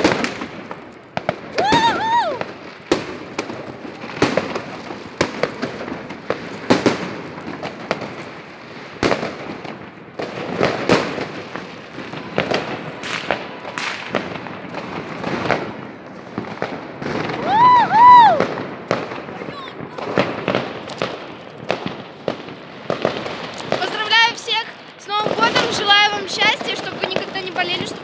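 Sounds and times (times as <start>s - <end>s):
fireworks bangs and crackling: 0.0s - 28.0s
rumble of distant fireworks: 0.0s - 28.0s.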